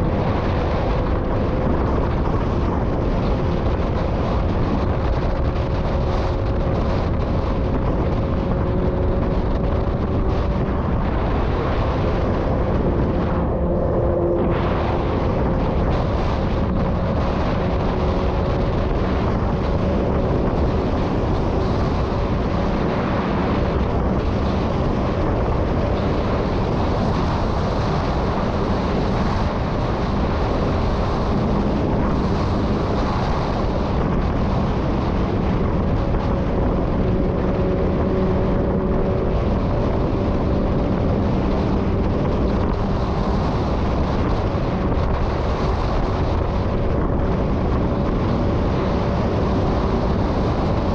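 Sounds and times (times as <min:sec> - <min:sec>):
motorcycle engine cruising: 0:00.0 - 0:50.9
wind rush on microphone: 0:00.0 - 0:50.9.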